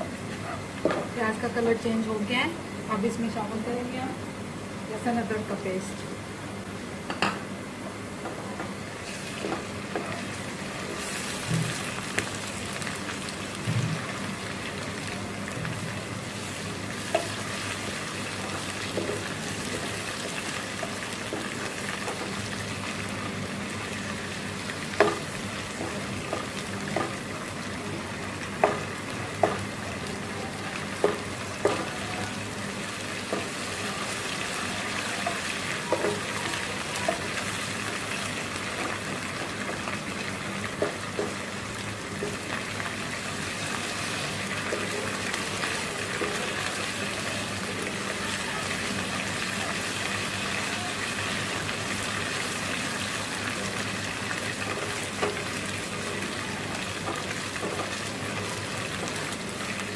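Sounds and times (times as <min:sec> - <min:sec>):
onion sizzling in oil: 0:00.0 - 0:59.9.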